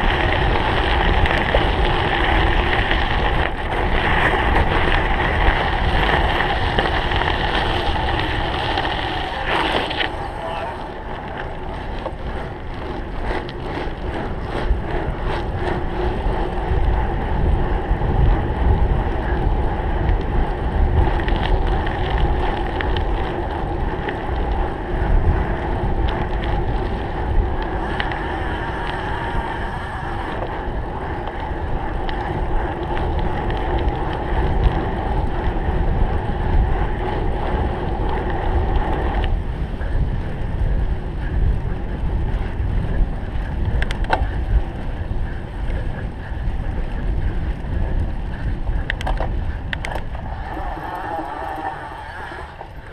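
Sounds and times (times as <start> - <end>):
bike rattling and clicking: 0.0 - 52.9
wind rumbling on microphone: 0.0 - 52.9.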